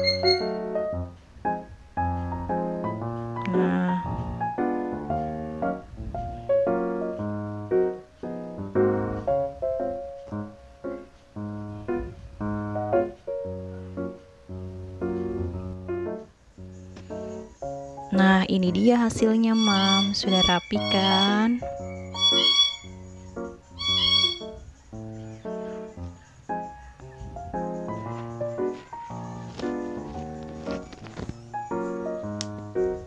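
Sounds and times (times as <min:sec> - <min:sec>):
light piano tune: 0:00.0 - 0:33.0.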